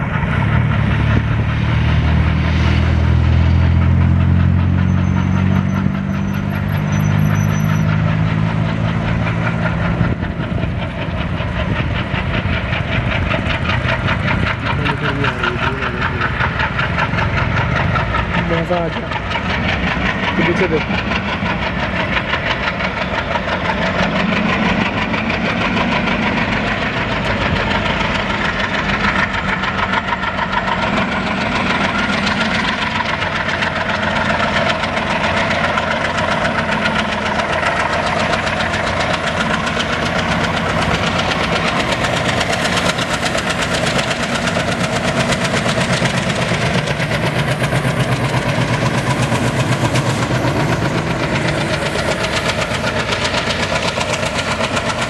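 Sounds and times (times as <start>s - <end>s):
diesel locomotive engine chugging: 0.0s - 55.0s.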